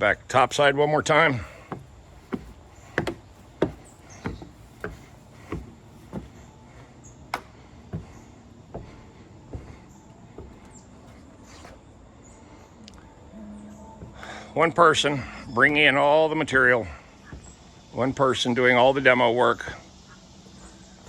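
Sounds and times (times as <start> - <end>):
footsteps on wooden stairs: 0.0 - 11.8, 13.6 - 18.9.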